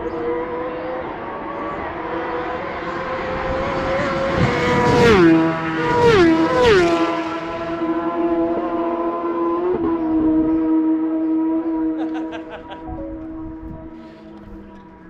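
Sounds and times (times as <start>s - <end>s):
racing motorcycles passing at speed: 0.0s - 15.0s.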